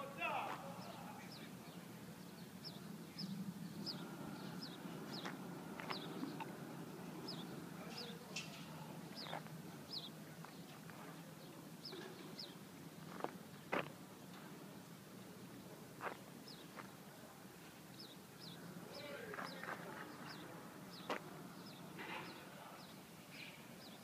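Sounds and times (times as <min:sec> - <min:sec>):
small birds chirping: 0:00.0 - 0:14.4, 0:15.3 - 0:24.0.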